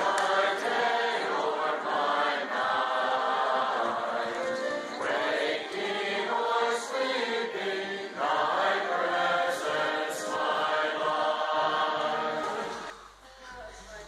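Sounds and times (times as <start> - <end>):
congregation singing a hymn: 0.0 - 13.0.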